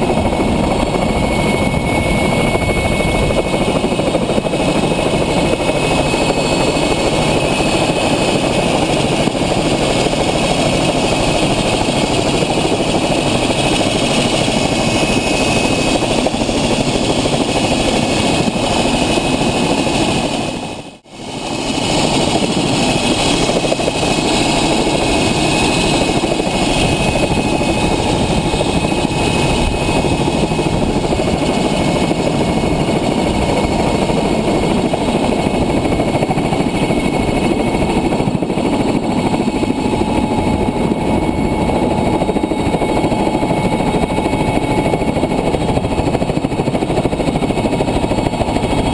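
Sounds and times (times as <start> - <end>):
helicopter turbines and rotor: 0.0 - 48.9.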